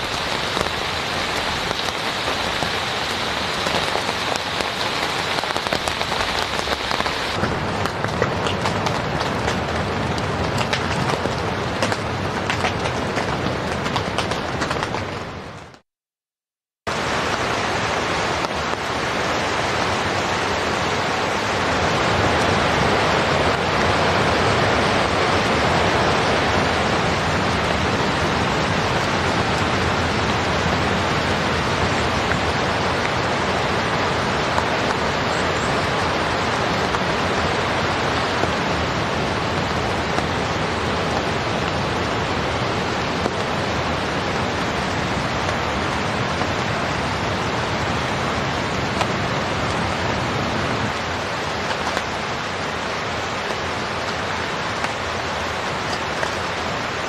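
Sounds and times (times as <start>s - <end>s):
rain on a tent: 0.0s - 15.9s, 16.8s - 57.0s.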